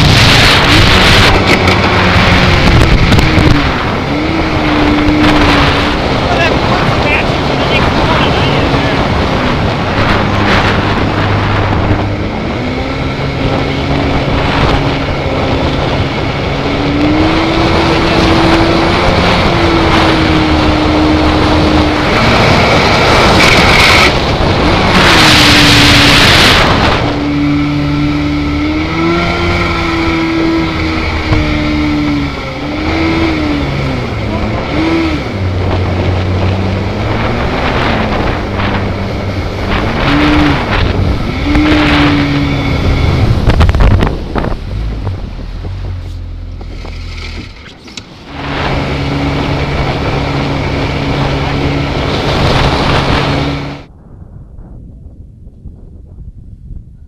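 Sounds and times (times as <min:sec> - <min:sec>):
jet boat engine revving: 0:00.0 - 0:53.9
rush of water and wind: 0:00.0 - 0:57.0.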